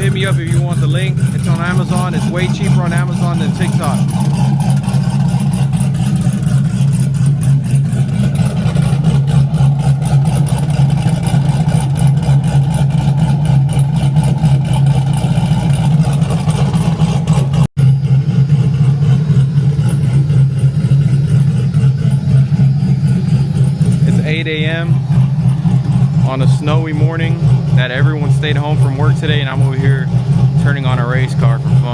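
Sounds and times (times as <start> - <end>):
car engine choppy idle: 0.0 - 31.9.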